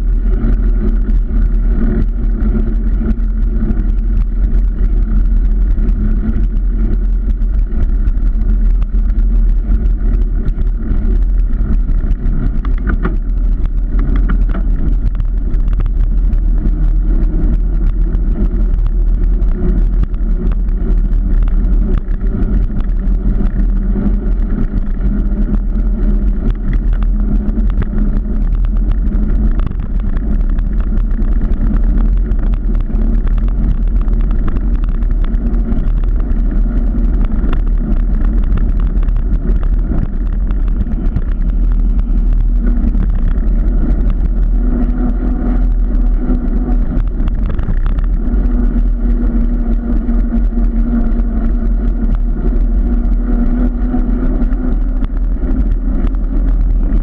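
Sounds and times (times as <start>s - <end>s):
car engine hum: 0.0s - 57.0s
low rumble: 0.0s - 57.0s
road noise: 0.0s - 57.0s.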